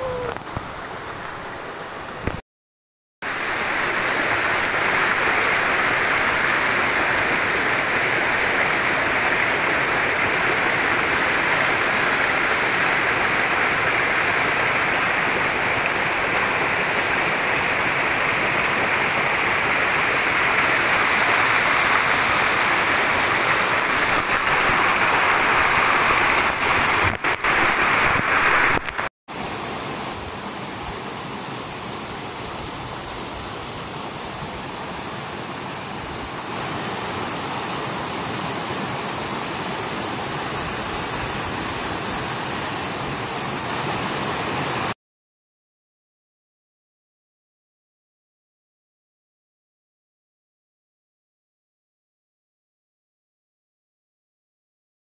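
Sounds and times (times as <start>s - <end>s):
waterfall and stream rushing: 0.0s - 2.4s, 3.2s - 45.0s.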